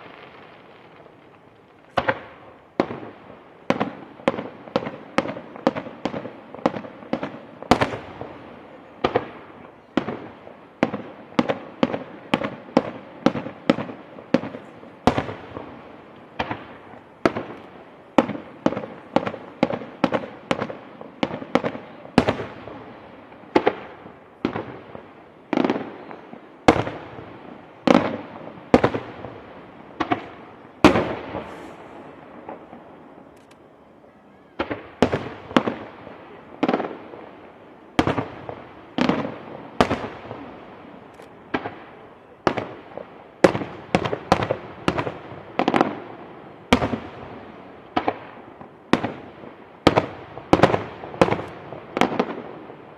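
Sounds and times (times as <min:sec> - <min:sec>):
fireworks bursting with bangs: 0:00.0 - 0:52.9.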